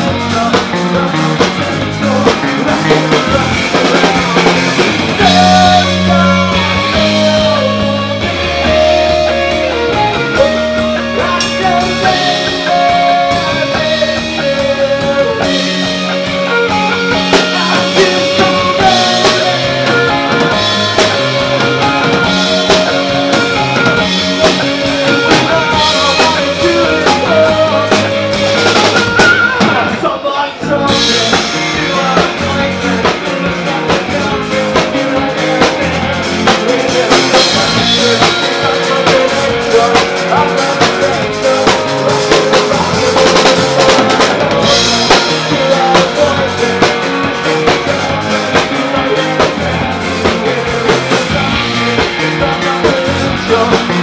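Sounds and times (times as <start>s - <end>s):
lead vocals: 0.0s - 54.0s
rock band playing: 0.0s - 54.0s.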